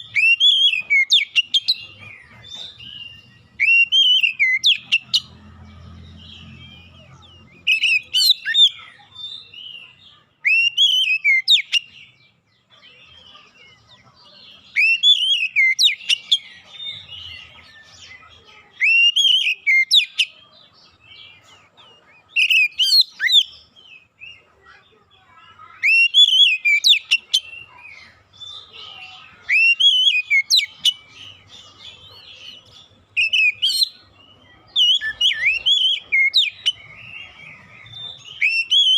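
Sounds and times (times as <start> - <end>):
bird whistled song: 0.0 - 5.4, 6.1 - 12.6, 14.6 - 20.4, 22.2 - 24.4, 25.6 - 38.9
soft bird twittering: 0.0 - 38.9.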